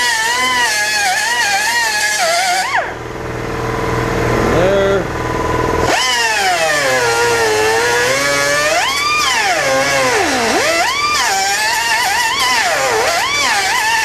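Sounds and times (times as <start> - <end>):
power grinder motor whine: 0.0 - 3.0, 5.2 - 14.0.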